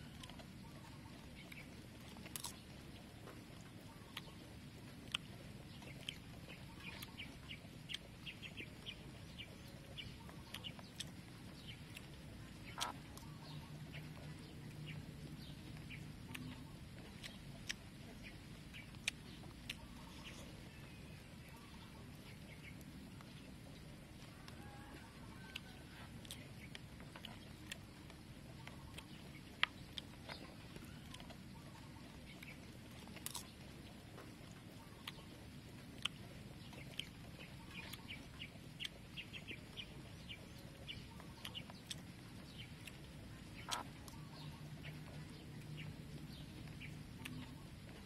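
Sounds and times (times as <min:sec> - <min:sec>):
person chewing: 0:00.0 - 0:48.0.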